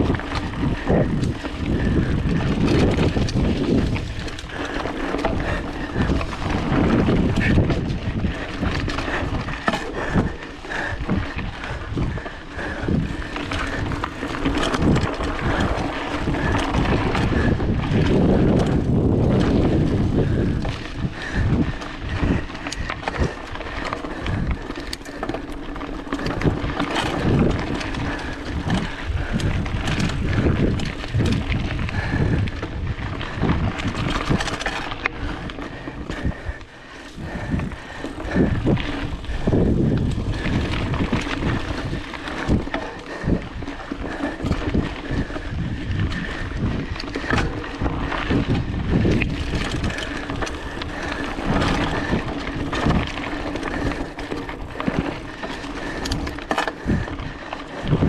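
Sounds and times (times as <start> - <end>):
bike rattling over bumps: 0.0 - 58.0
bike tyre noise on dirt: 0.0 - 58.0
wind on microphone: 0.0 - 58.0.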